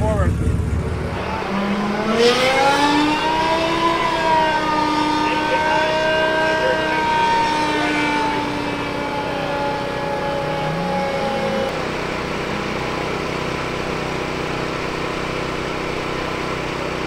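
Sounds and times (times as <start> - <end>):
pitched whine falling: 0.0 - 16.0
car engine running: 0.0 - 17.0.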